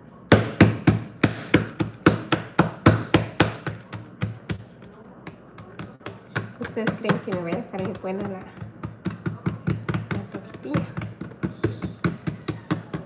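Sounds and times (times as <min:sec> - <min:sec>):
hands patting tortilla dough: 0:00.3 - 0:13.0.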